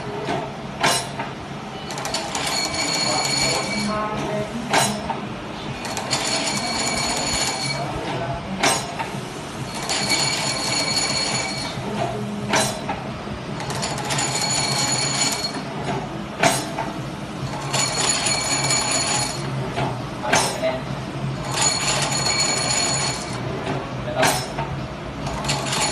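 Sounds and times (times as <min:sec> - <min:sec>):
sharp machine clack: 0:00.0 - 0:04.1, 0:04.7 - 0:05.2, 0:05.8 - 0:13.0, 0:13.6 - 0:16.9, 0:17.5 - 0:19.6, 0:21.4 - 0:23.4, 0:24.2 - 0:25.9
steady low hum: 0:00.0 - 0:25.9.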